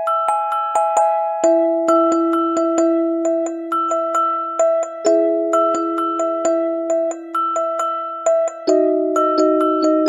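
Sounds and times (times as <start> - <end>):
music box playing a tune: 0.0 - 10.0.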